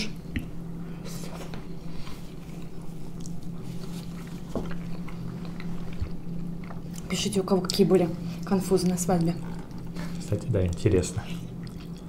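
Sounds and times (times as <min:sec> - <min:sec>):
steady low hum: 0:00.0 - 0:12.0
people chewing food: 0:00.3 - 0:12.0.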